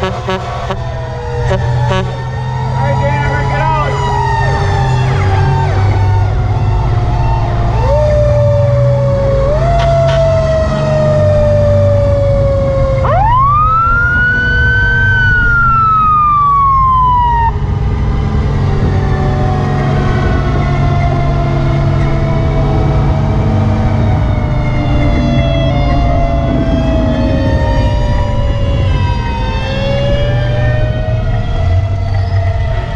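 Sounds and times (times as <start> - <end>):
fire truck siren wailing: 0.0 - 32.9
truck engine rumbling: 0.0 - 32.9.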